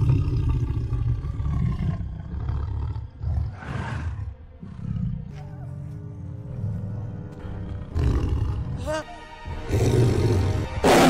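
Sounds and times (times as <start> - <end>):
tiger growling: 0.0 - 8.9, 9.6 - 11.0.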